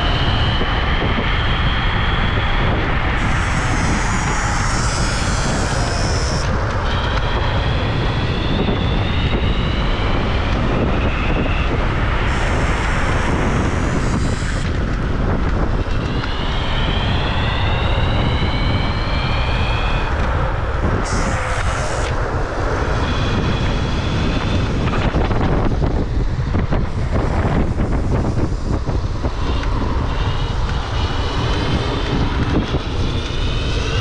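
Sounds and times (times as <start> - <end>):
electric scooter motor whining: 0.0 - 34.0
heavy wind rush: 0.0 - 34.0.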